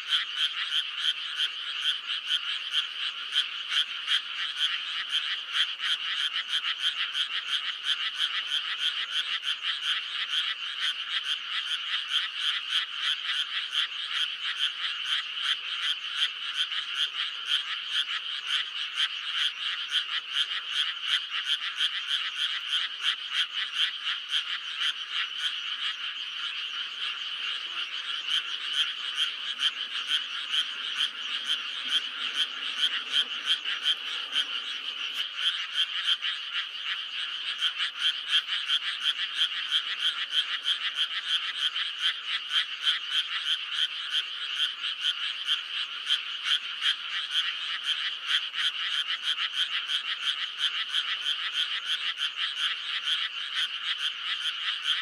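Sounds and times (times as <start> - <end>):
frogs chorus: 0.0 - 55.0.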